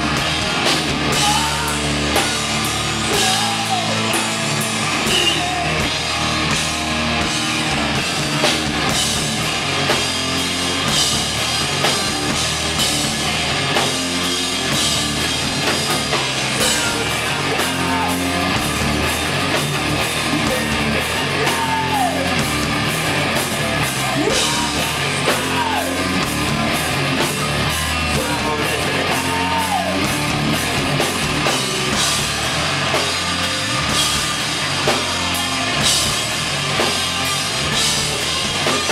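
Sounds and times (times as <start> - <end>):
drum kit pounding: 0.0 - 38.9
electric guitar with bends: 0.0 - 38.9.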